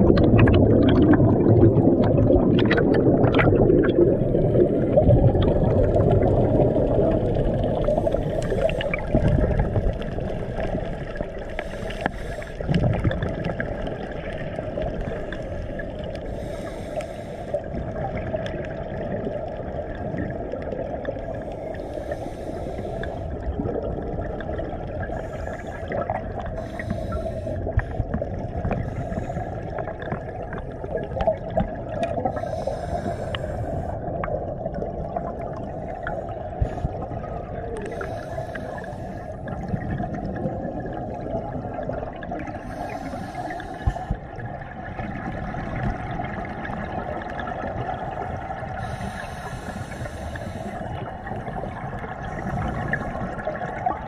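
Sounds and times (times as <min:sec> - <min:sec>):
exhaled bubbles underwater: 0:00.0 - 0:54.0
low rumble of water: 0:00.0 - 0:54.0.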